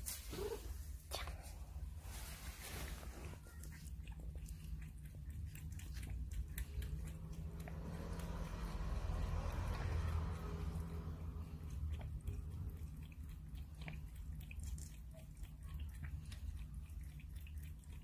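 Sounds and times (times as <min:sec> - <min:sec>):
low steady hum: 0:00.0 - 0:18.0
cat lapping water: 0:03.4 - 0:18.0.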